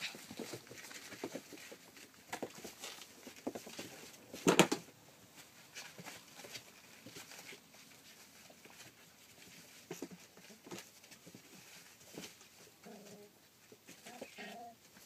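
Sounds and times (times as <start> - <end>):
puppy paws pattering on paper: 0.0 - 4.5, 5.3 - 15.0.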